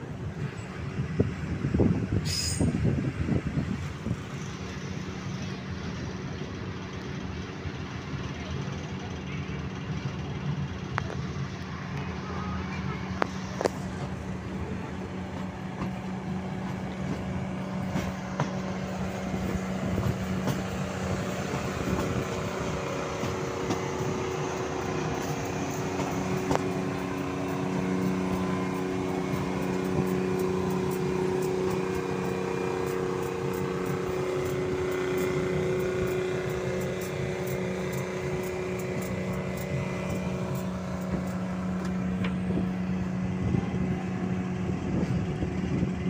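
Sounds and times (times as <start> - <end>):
train rumbling with low drone: 0.0 - 46.0.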